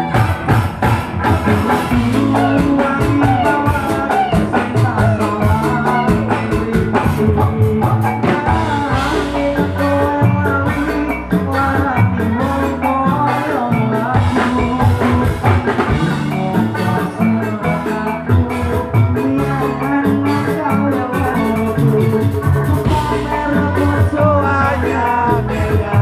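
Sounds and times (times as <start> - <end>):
drum kit beat: 0.0 - 26.0
live band music: 0.0 - 26.0
man singing: 1.2 - 26.0.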